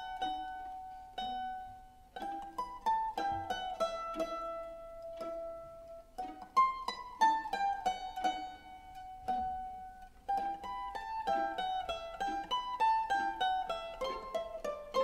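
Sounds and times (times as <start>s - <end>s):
plucked-string music: 0.0s - 15.0s.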